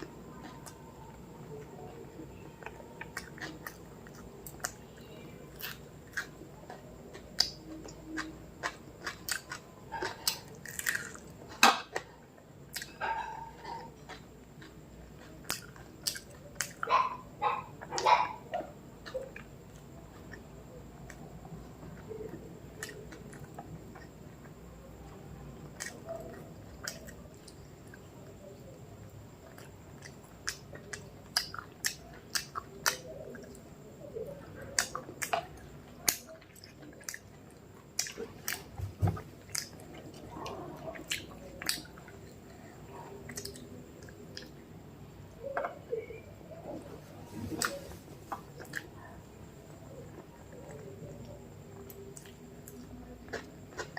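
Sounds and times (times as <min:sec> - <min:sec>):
person chewing food: 0:00.0 - 0:46.2, 0:46.8 - 0:53.9.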